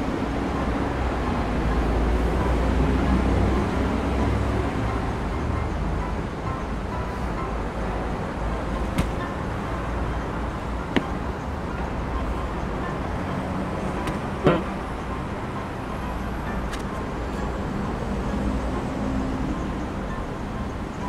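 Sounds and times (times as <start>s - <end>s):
cars passing by: 0.0s - 21.0s.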